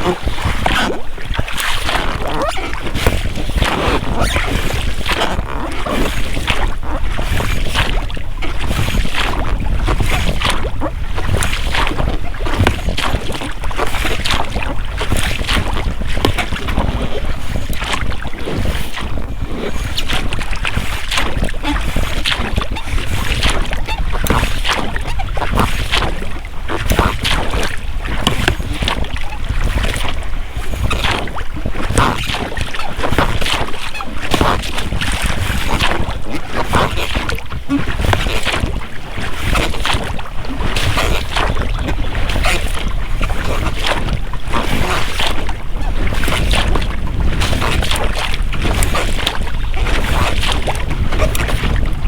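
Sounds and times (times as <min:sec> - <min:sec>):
oars splashing in water: 0:00.0 - 0:52.0
rubber rowlocks creaking: 0:00.0 - 0:52.0
wind on microphone: 0:00.0 - 0:52.0.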